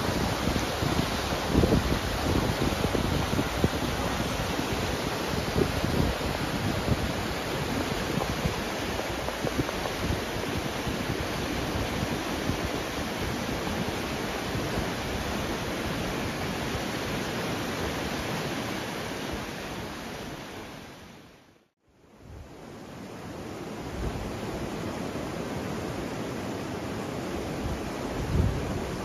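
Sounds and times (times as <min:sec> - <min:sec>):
river rushing over rocks: 0:00.0 - 0:21.3, 0:22.6 - 0:29.0.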